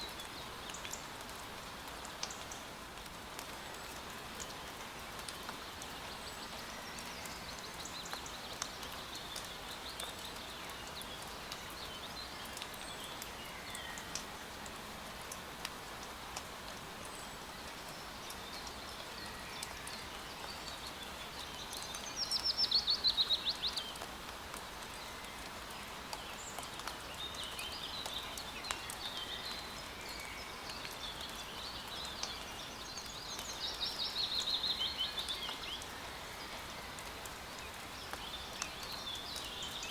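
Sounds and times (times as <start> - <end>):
rain drop ticks: 0.0 - 39.9
steady rain falling: 0.0 - 39.9
songbirds singing: 4.4 - 14.4, 17.0 - 24.1, 24.8 - 39.9.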